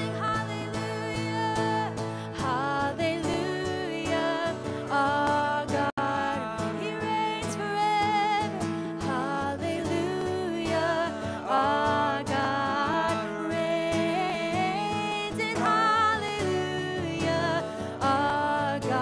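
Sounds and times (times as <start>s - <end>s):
people singing: 0.0s - 19.0s
strummed acoustic guitar: 0.0s - 19.0s.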